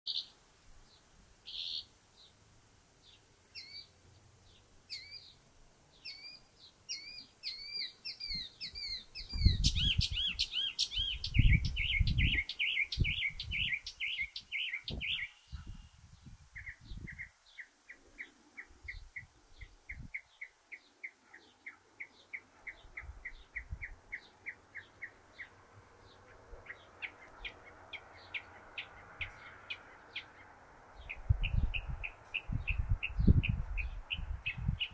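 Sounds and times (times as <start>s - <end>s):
mockingbird singing: 3.1s - 5.4s, 6.0s - 16.0s, 16.6s - 34.9s.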